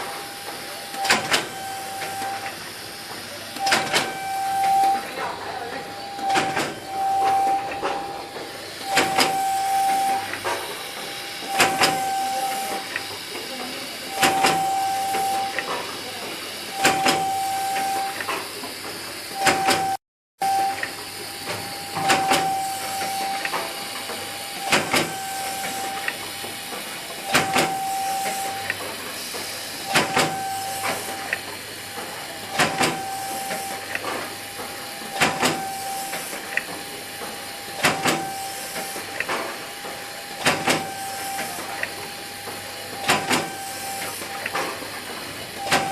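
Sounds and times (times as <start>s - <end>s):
machine clacking: 0.0s - 45.9s.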